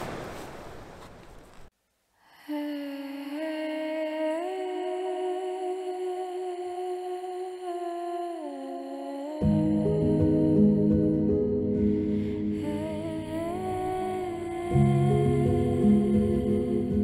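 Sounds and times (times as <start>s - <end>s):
soft sustained music: 2.5s - 17.0s.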